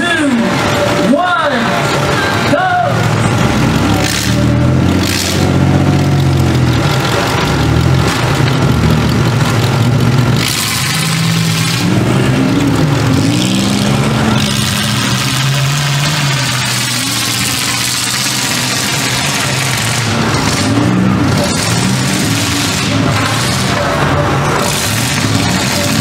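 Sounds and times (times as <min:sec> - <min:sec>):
car engines revving: 0:00.0 - 0:26.0
cars ramming each other: 0:00.0 - 0:26.0.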